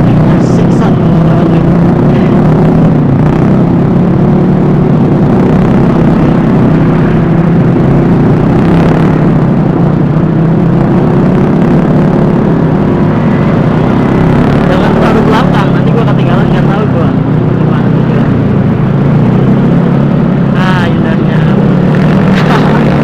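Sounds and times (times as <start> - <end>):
scooter engine running: 0.0 - 23.0
wind rumbling on microphone: 0.0 - 23.0.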